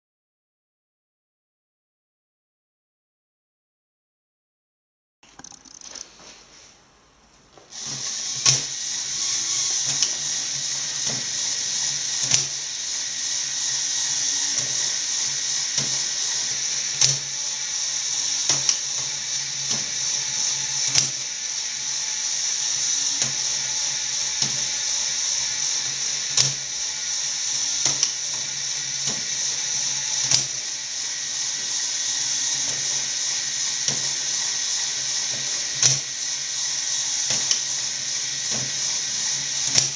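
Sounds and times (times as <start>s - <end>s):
motor and plastic gears whirring: 5.3s - 6.3s, 7.7s - 39.9s.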